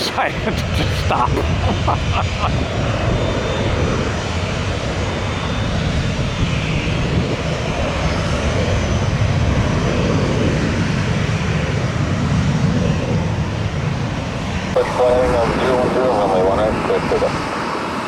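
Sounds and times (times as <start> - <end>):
wind rumble on microphone: 0.0 - 17.6
jet engines running: 0.0 - 18.0.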